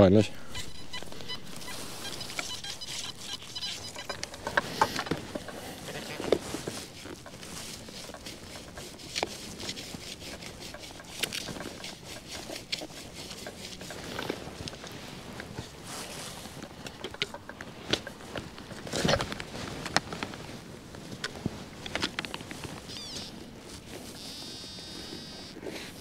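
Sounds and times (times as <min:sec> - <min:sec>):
crunches of earth and stubble: 0:00.0 - 0:26.0
hand digger scraping soil: 0:00.1 - 0:26.0.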